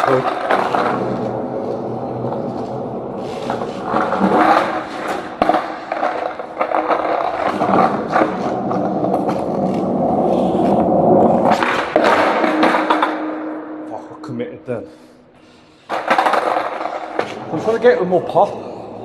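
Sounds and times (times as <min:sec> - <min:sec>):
skateboard clacking: 0:00.0 - 0:13.5, 0:15.8 - 0:17.9
skateboard wheels rolling: 0:00.0 - 0:13.8, 0:15.4 - 0:19.0.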